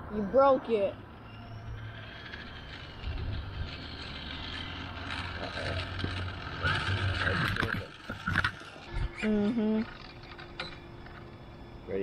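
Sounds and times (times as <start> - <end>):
rc car motor whine: 0.0 - 12.0
steady low hum: 0.0 - 12.0.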